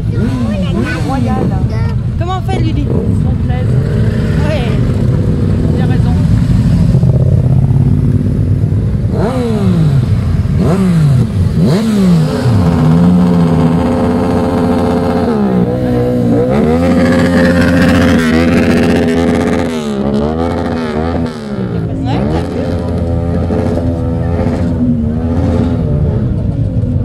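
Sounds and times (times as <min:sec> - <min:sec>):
motorcycle engines passing: 0:00.0 - 0:27.0.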